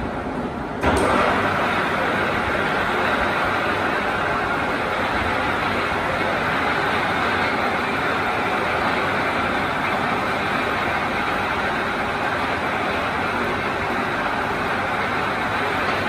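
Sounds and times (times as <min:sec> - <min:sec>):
lathe running: 0:00.8 - 0:16.0.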